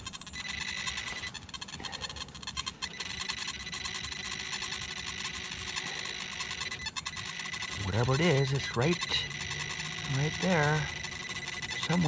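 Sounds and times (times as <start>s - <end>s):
metal detector high-pitched tone: 0.0s - 1.4s, 2.6s - 12.0s.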